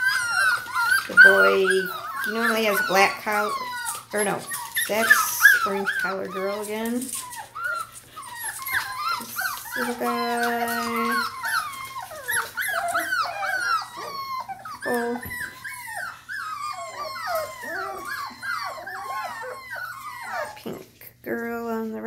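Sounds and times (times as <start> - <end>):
puppies whining and yipping: 0.0 - 20.8.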